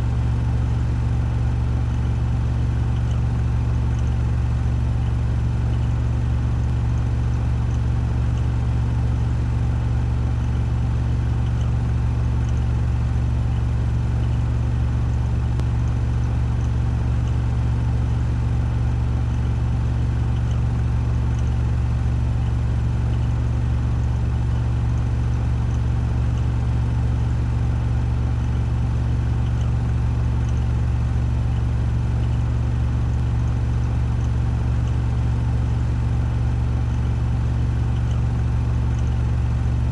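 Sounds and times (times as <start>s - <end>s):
washing machine spin cycle hum: 0.0s - 39.9s.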